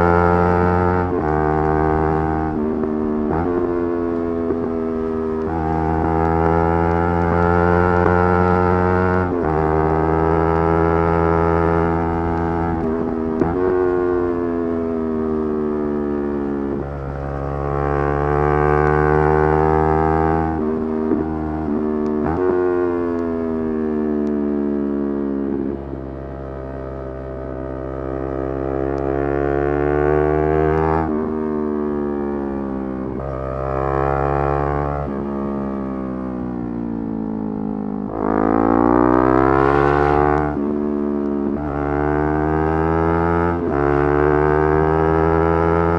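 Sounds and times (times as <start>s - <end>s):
motorcycle engine at high revs: 0.0s - 45.9s.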